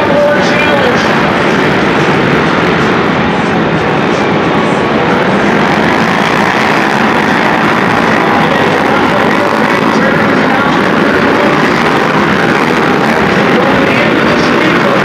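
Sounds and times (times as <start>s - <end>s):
quad engines droning: 0.0s - 15.0s.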